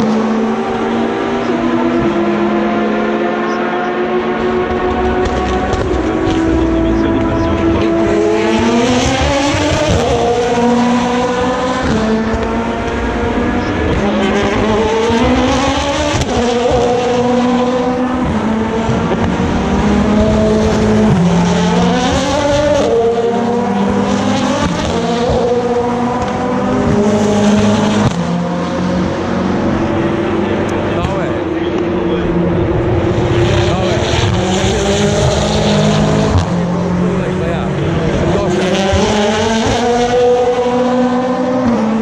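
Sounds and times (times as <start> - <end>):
race cars accelerating: 0.0 - 42.0.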